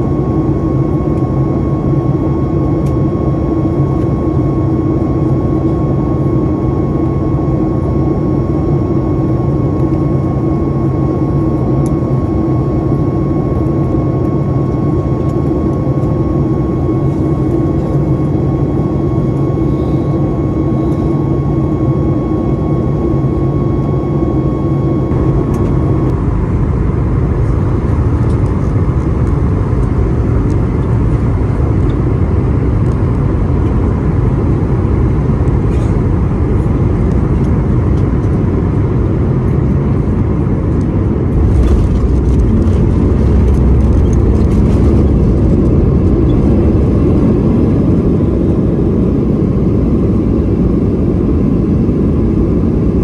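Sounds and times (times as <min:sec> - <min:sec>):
faint whine tones: 0:00.0 - 0:53.0
jet engine cabin rumble: 0:00.0 - 0:53.0.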